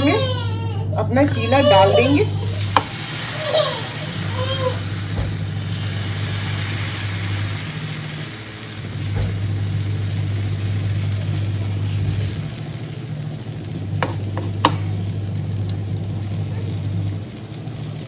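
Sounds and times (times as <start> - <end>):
cooktop low hum: 0.0 - 18.0
batter sizzling in a pan: 1.7 - 18.0.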